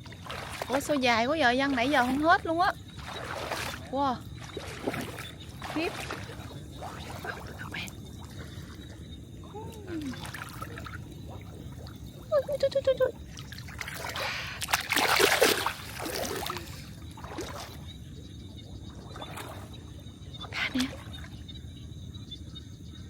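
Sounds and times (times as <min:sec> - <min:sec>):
water splashing and dribbling: 0:00.0 - 0:21.7.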